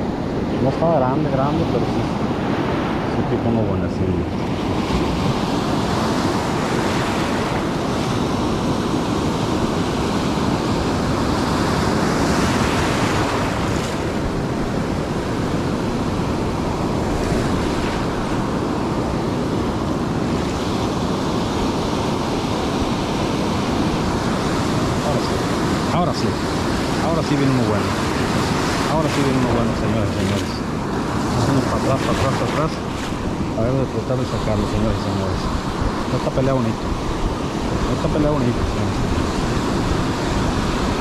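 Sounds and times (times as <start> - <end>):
surf breaking on beach: 4.2 - 41.0
wind buffeting microphone: 4.2 - 41.0.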